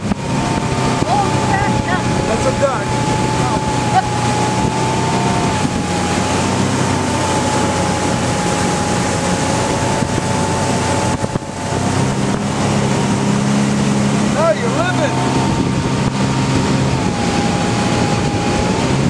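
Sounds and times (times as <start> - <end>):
outboard motor whining: 0.0 - 19.0
rush of wind and water: 0.0 - 19.0.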